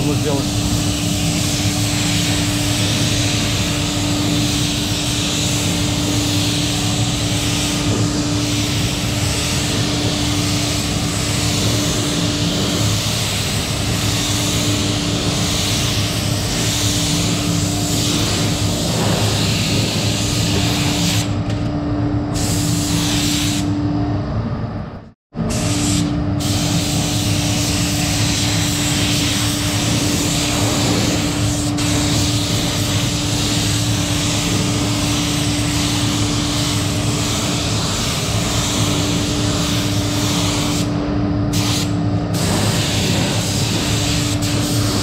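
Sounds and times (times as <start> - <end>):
spray gun hissing: 0.0 - 21.3, 22.4 - 23.7, 25.5 - 45.0
steady low hum: 0.0 - 45.0.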